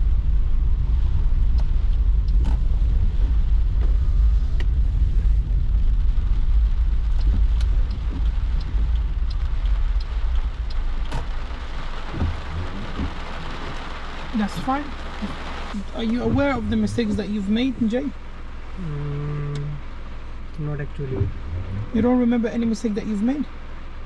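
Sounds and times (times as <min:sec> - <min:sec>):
car road and engine noise: 0:00.0 - 0:24.0
rain ticking on car: 0:00.0 - 0:24.0.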